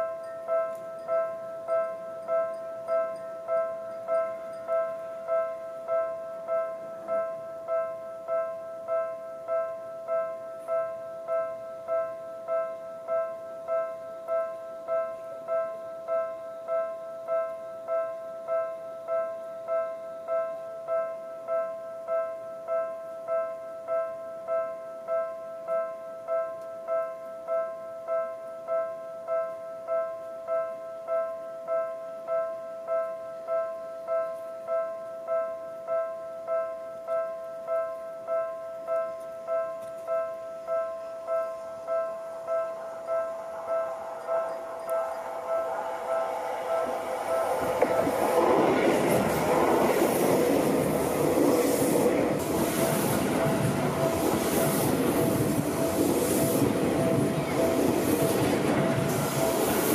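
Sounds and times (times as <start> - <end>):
level-crossing warning bell: 0.0 - 59.9.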